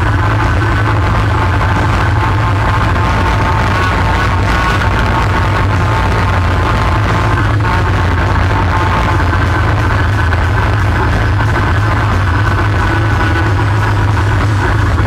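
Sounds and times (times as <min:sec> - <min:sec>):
atv engine droning with whine: 0:00.0 - 0:15.0.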